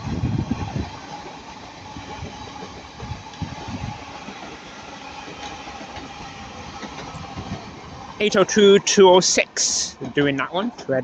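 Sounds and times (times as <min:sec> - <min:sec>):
passenger train rumbling past: 0:00.0 - 0:11.0.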